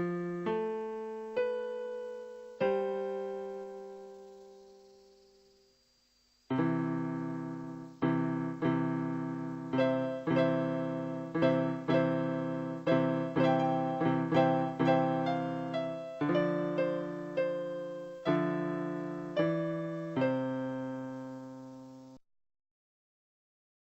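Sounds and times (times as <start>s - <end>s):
slow piano chords: 0.0s - 5.4s, 6.5s - 22.2s.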